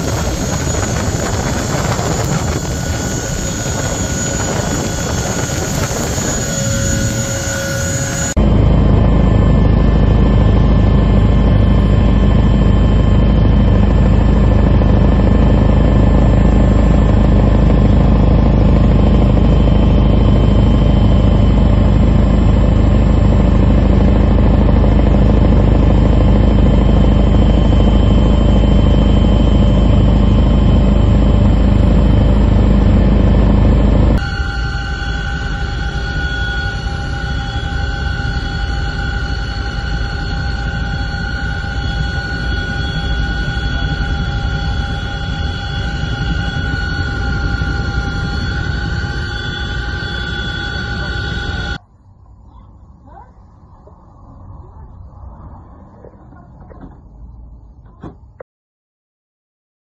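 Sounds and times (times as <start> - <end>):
helicopter engine and rotor drone: 0.0 - 51.8
rushing wind: 0.0 - 51.8.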